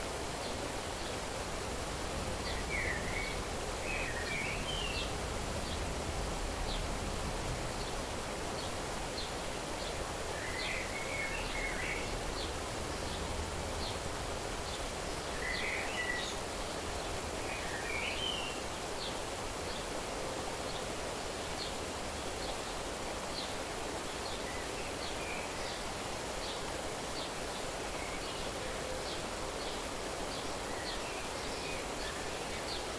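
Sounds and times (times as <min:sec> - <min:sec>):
steady rustling hiss: 0:00.0 - 0:32.9.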